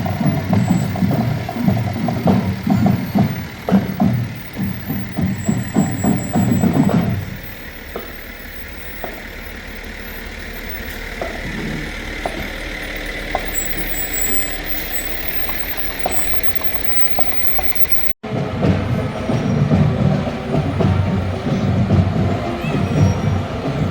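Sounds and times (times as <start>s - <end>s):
fire truck engine running: 0.0s - 23.9s.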